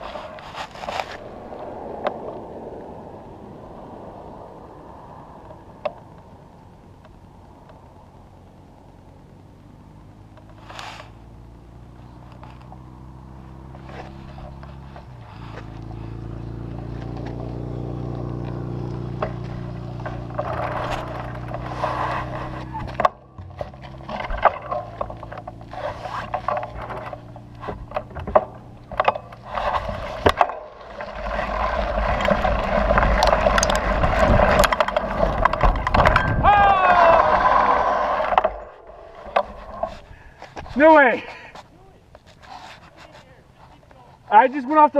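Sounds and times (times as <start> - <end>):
bike rattling over bumps: 0.0 - 44.9
low rumble of tyres and wind: 0.0 - 44.9.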